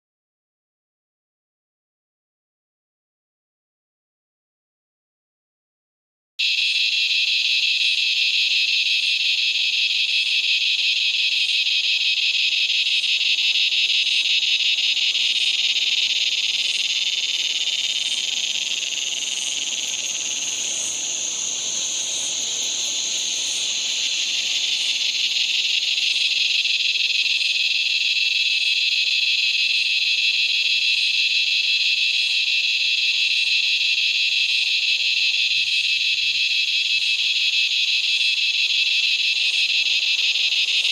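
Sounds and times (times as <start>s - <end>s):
cicada buzzing: 6.4s - 40.9s.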